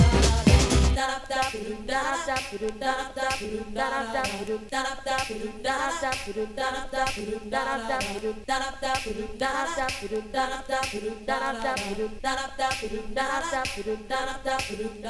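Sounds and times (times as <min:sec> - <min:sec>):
unaccompanied vocals singing: 0:00.0 - 0:15.0.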